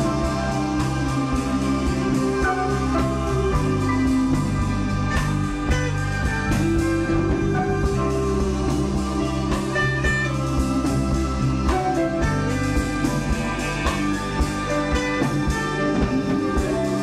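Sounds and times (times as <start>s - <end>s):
electric guitar: 0.0s - 17.0s
rock band playing: 0.0s - 17.0s.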